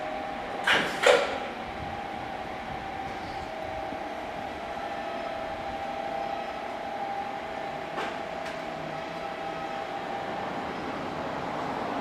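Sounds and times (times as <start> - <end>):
electric locomotive running: 0.0 - 12.0.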